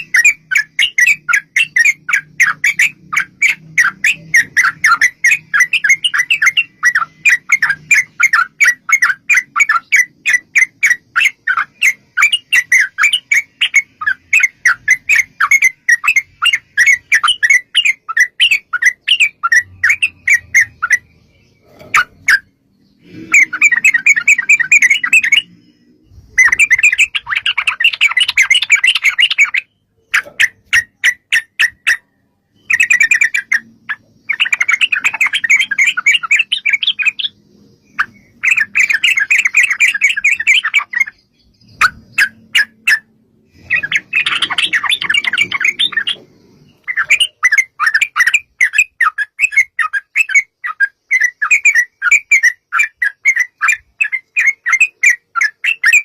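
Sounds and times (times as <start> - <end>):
bird singing sharp repeated notes: 0.0 - 56.0.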